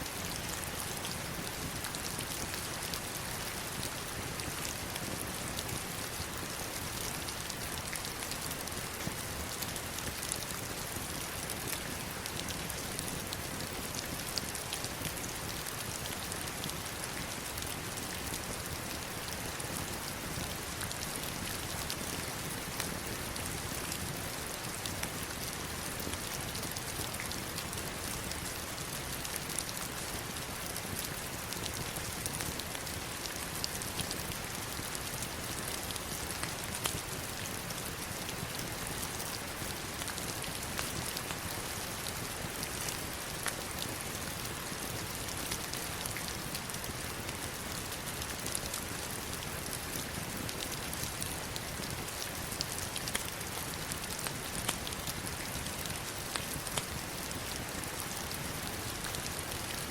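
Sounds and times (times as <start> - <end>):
heavy rain falling on stones: 0.0 - 59.9.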